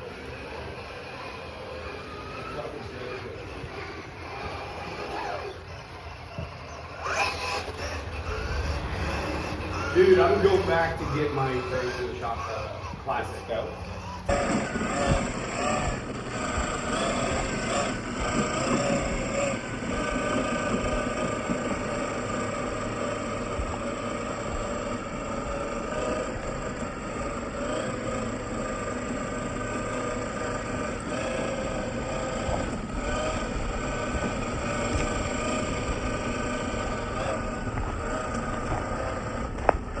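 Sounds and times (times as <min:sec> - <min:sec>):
motor whining: 0:00.0 - 0:40.0.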